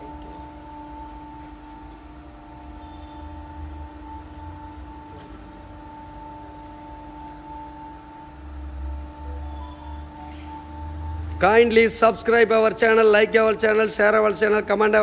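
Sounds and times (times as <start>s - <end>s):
oil mill mechanical hum: 0.0s - 15.0s.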